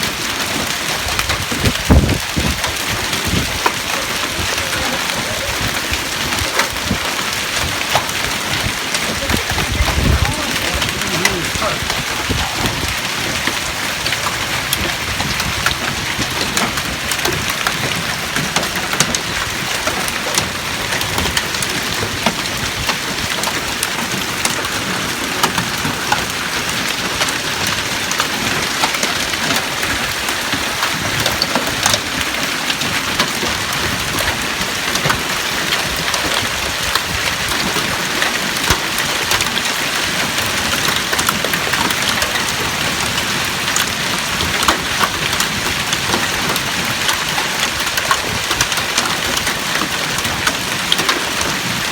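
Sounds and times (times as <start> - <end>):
hailstones striking hard surfaces: 0.0 - 51.9
heavy rain downpour: 0.0 - 51.9.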